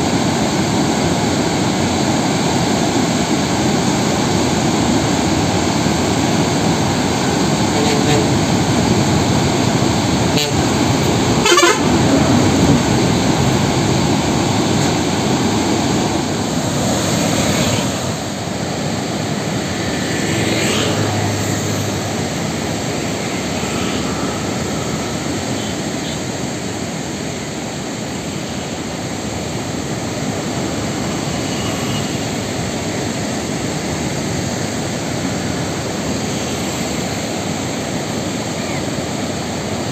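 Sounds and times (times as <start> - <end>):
floodwater rushing over dam spillway: 0.0 - 39.9.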